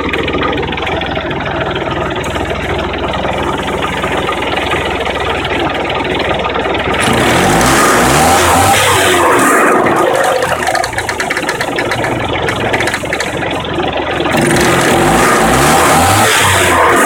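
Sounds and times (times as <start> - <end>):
car engine revving with knocking: 0.0 - 17.0.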